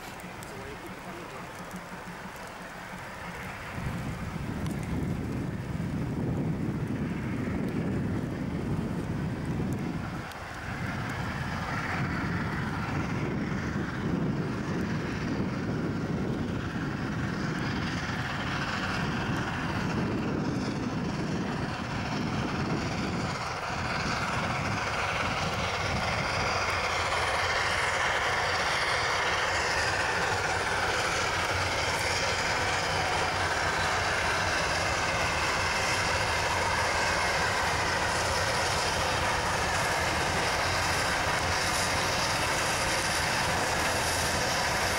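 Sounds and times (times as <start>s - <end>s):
steam locomotive working up a grade: 0.0s - 44.9s.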